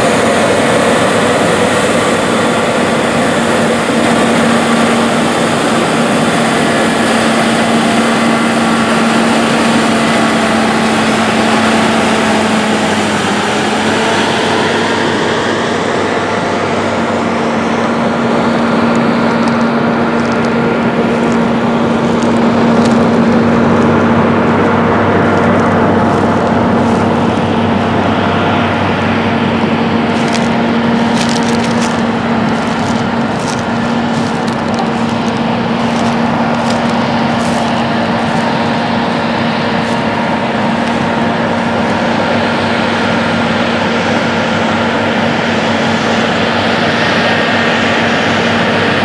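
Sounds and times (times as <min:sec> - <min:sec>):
combine harvester engine drone: 0:00.0 - 0:49.0.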